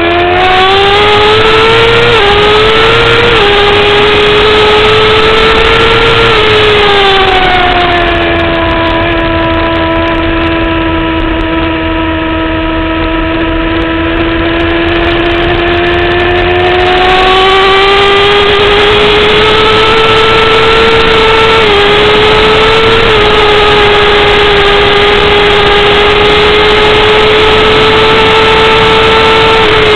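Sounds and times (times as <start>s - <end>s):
motorcycle engine at high revs: 0.0s - 29.9s.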